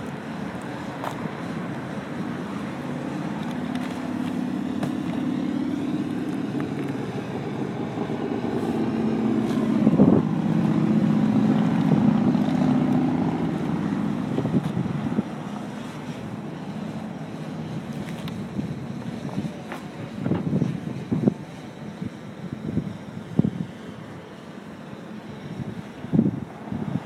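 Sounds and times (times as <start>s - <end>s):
wind noise on microphone: 0.0s - 16.5s, 17.3s - 24.3s, 25.3s - 27.0s
drone propellers buzzing: 0.0s - 27.0s.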